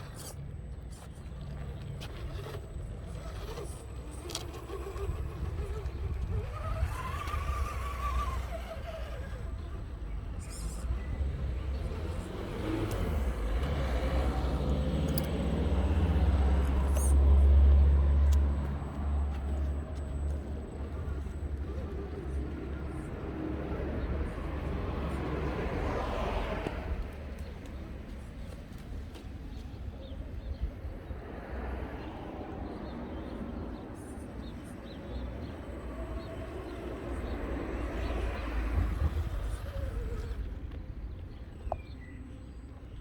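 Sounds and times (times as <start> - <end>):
rc crawler low rumble: 0.0 - 43.0.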